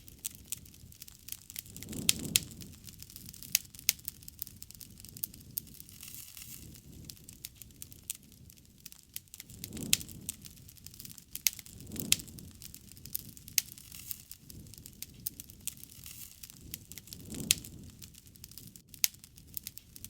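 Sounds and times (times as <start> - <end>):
campfire crackling and popping: 0.0 - 20.0
low rumble of burning: 0.0 - 20.0.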